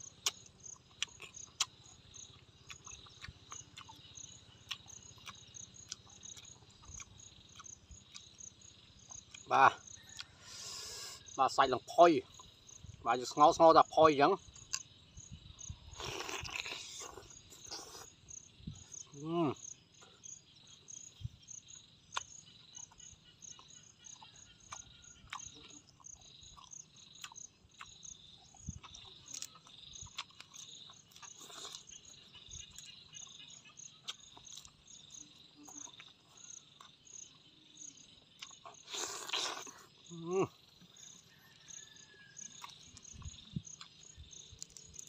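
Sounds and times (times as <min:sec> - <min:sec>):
chewing and lip-smacking: 0:00.0 - 0:10.8, 0:14.5 - 0:15.1, 0:15.9 - 0:19.0, 0:22.1 - 0:40.0, 0:40.6 - 0:45.0
insects chirping: 0:00.0 - 0:45.0.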